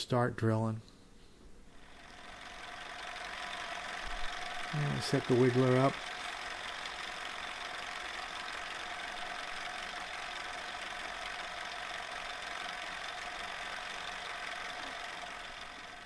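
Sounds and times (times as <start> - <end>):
drilling machine motor hum: 1.7 - 16.0.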